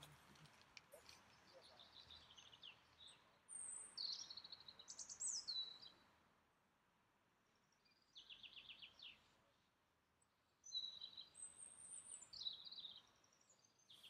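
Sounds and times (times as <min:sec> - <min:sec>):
faint songbirds singing: 0:00.0 - 0:14.0.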